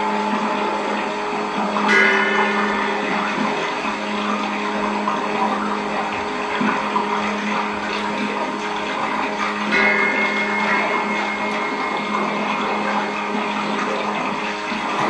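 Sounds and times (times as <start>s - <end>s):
droning electronic score: 0.0s - 15.0s.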